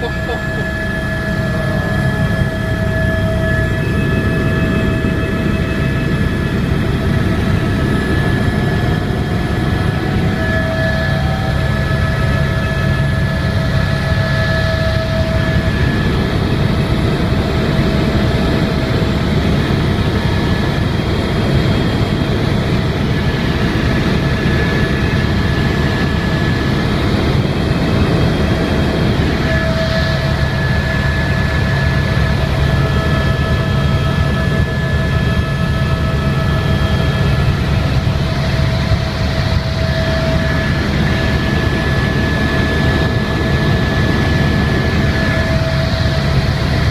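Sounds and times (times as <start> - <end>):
helicopter engine and rotor drone: 0.0 - 46.9
high whining tones: 0.0 - 46.9.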